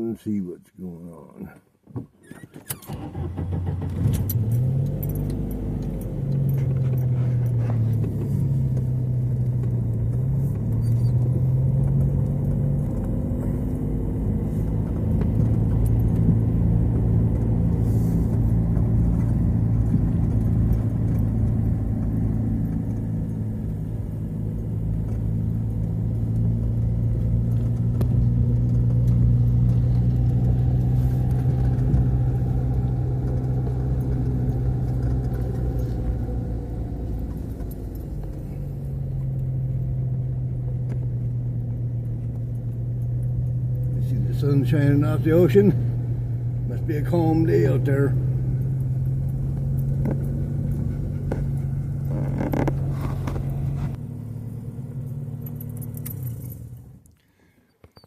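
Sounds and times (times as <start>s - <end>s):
car engine: 2.3s - 58.0s
road noise: 2.8s - 58.0s.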